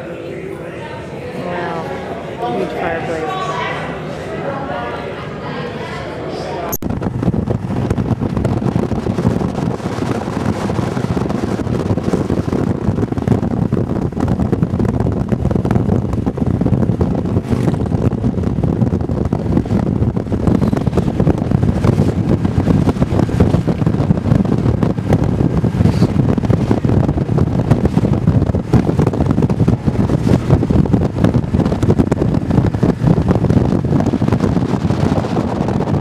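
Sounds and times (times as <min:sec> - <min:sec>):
wind rushing over microphone: 0:06.7 - 0:36.0
road noise: 0:07.0 - 0:36.0.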